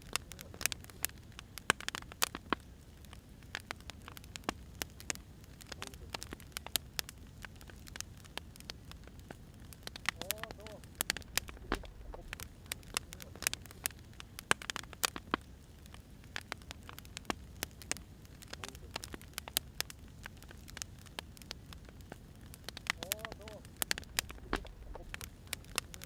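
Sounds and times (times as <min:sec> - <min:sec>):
faint low rumble: 0:00.0 - 0:26.0
firewood crackling: 0:00.0 - 0:26.0.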